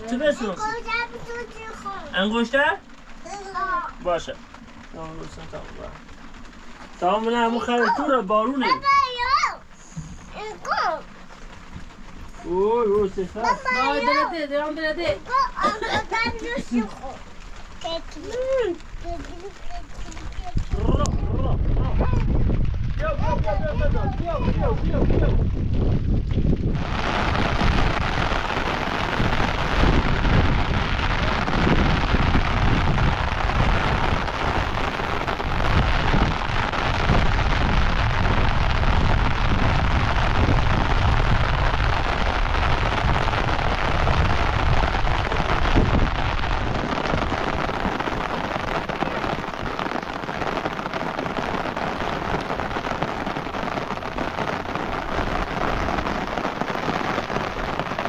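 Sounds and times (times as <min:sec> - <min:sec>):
steady rain: 0:00.0 - 0:58.0
wind rumbling on microphone: 0:09.6 - 0:58.0.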